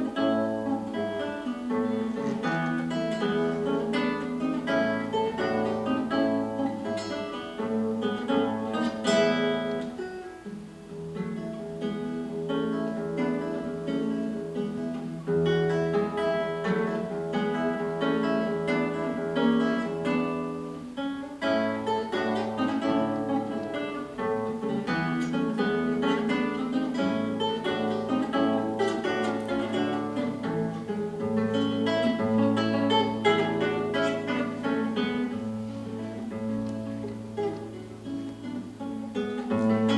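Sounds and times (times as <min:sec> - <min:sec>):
plucked string instrument solo: 0:00.0 - 0:39.9.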